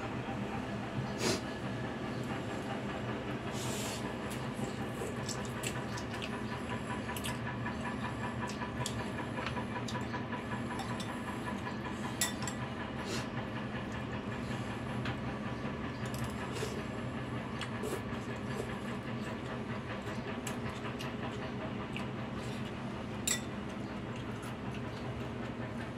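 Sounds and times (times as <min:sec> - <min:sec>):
steady mechanical hum: 0:00.0 - 0:25.9.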